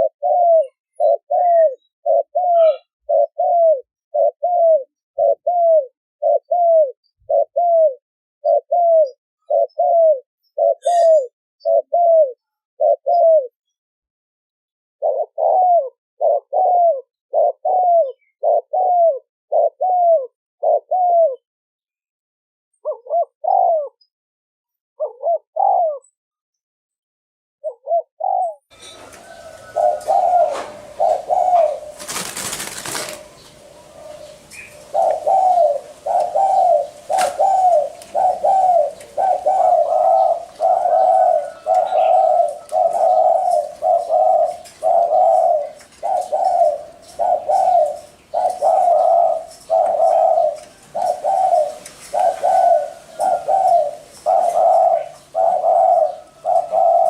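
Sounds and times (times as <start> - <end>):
dove cooing: 0.0 - 13.6, 15.0 - 21.4, 22.8 - 24.1, 25.0 - 26.1, 27.6 - 57.0.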